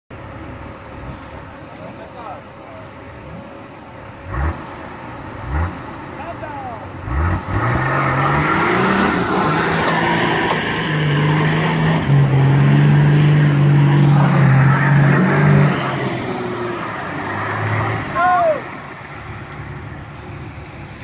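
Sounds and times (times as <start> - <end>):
off-road engines revving: 0.2 - 21.0.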